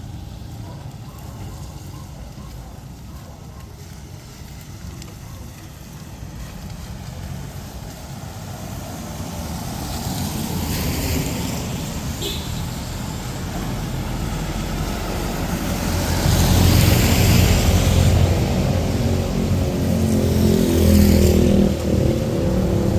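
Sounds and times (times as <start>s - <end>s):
traffic engine rumble: 0.0s - 22.9s
vehicle approaching: 0.0s - 22.9s.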